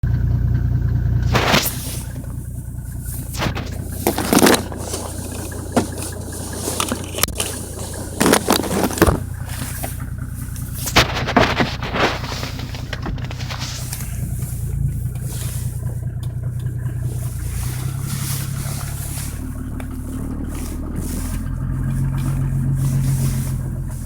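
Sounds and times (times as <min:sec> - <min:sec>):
car engine humming: 0:00.0 - 0:24.0
short engine noises: 0:00.0 - 0:24.0.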